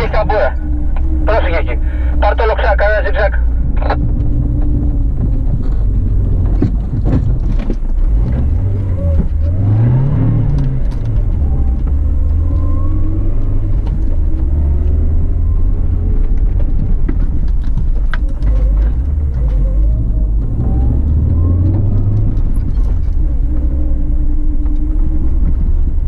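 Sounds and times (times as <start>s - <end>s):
car engine rumbling under load: 0.0s - 26.0s.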